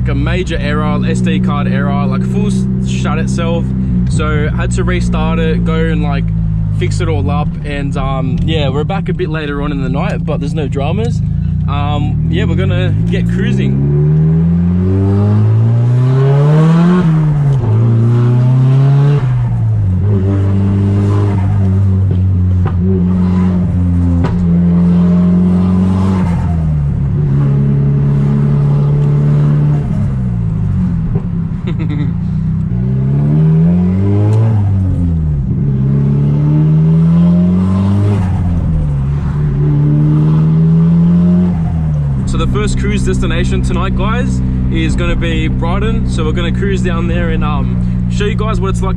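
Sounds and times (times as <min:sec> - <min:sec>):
car engine accelerating through gears: 0:00.0 - 0:48.9.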